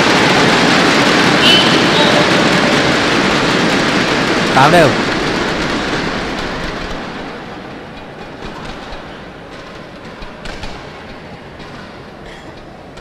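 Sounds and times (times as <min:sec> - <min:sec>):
arena crowd noise: 0:00.0 - 0:13.0.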